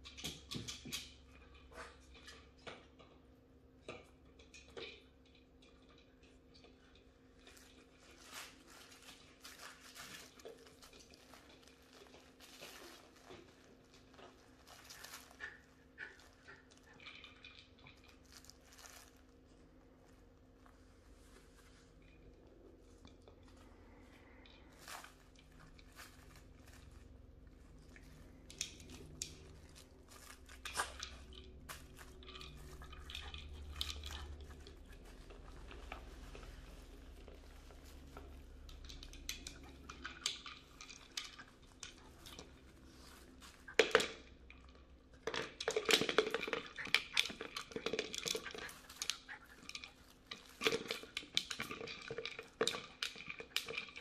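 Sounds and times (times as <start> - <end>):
plastic dog toys clicking and knocking: 0.0 - 8.4, 9.0 - 19.1, 24.4 - 42.8, 43.4 - 54.0
treats rattling inside toys: 4.3 - 20.0, 21.2 - 54.0.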